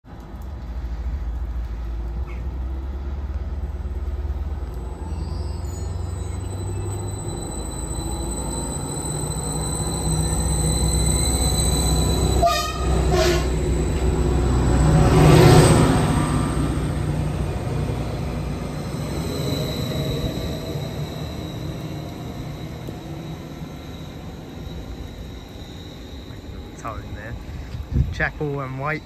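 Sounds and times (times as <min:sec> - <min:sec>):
train passing with engine hum: 0:00.1 - 0:29.0
high whine: 0:04.6 - 0:29.0.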